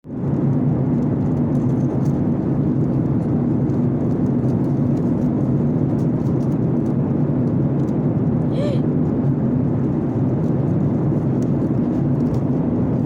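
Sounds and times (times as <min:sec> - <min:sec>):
airliner cabin engine rumble: 0:00.1 - 0:13.0.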